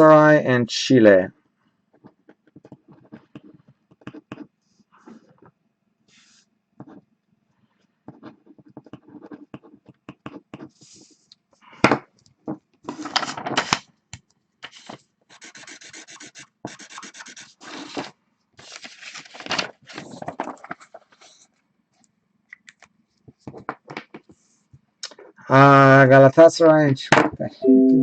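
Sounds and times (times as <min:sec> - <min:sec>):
rubbing and scraping handling noise: 0:01.5 - 0:14.0, 0:14.6 - 0:22.1, 0:22.8 - 0:25.5.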